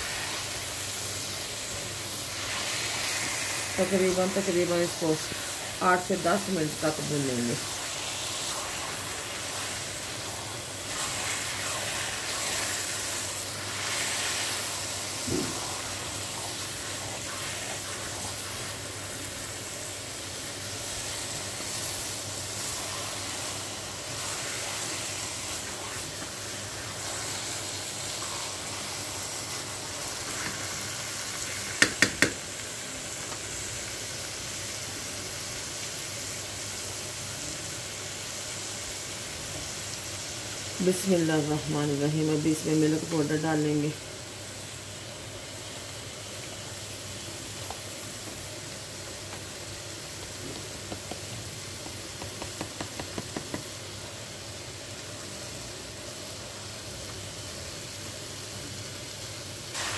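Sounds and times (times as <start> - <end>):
carrots sizzling in a wok: 0.0 - 59.9.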